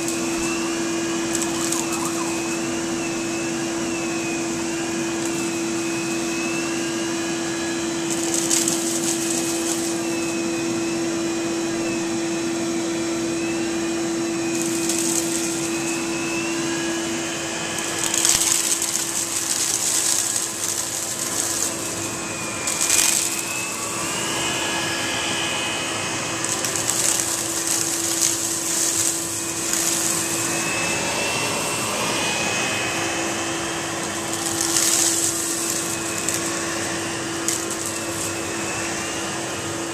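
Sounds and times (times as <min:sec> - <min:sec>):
air rushing through vacuum hose: 0:00.0 - 0:12.6, 0:13.2 - 0:39.9
vacuum cleaner humming and whining: 0:00.0 - 0:39.9.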